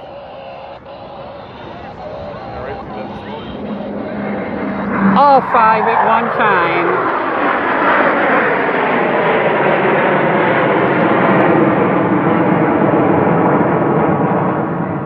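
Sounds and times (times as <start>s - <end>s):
jets roaring past: 0.0s - 15.0s.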